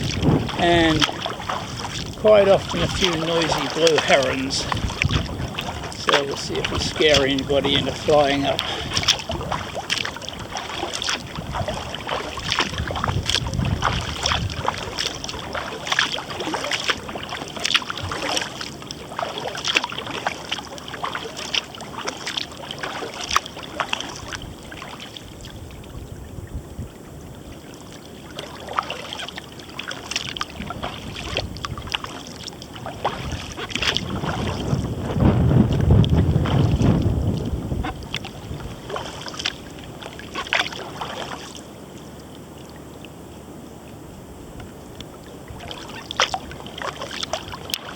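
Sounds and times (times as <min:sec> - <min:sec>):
wind rumble on microphone: 0:00.0 - 0:18.4, 0:24.0 - 0:28.0, 0:30.2 - 0:42.0, 0:42.9 - 0:47.9
paddle splashing water: 0:00.0 - 0:47.9.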